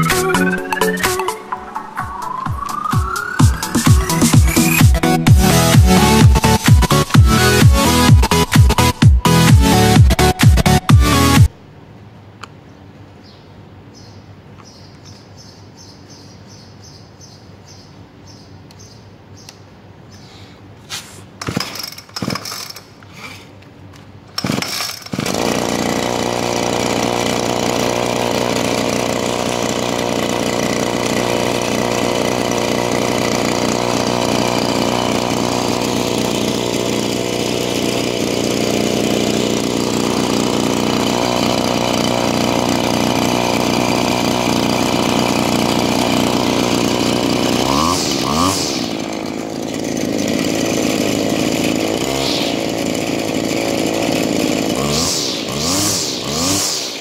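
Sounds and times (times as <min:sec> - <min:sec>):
brush cutter engine starting: 0:00.0 - 0:11.5, 0:21.2 - 0:57.0.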